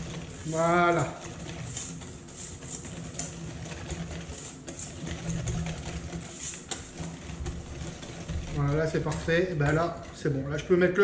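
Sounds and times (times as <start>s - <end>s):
whisk scraping metal bowl: 0.0s - 11.0s.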